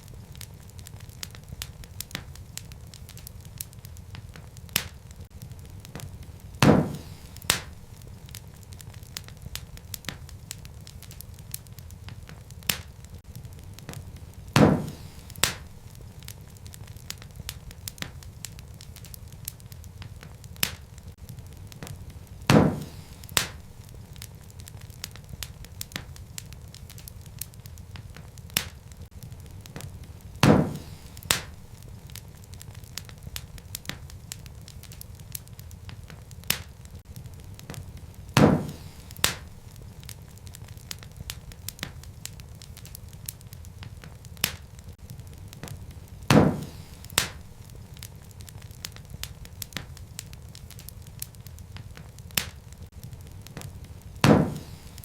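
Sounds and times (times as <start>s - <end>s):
loud fire pops: 0.0s - 55.0s
low rumble of flames: 0.0s - 55.0s
wood fire crackling: 0.0s - 55.0s.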